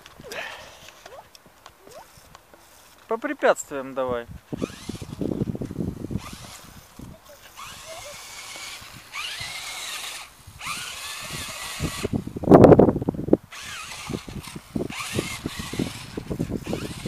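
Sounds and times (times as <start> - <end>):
rc car motor whining: 0.2 - 2.8, 4.5 - 12.4, 13.5 - 17.0.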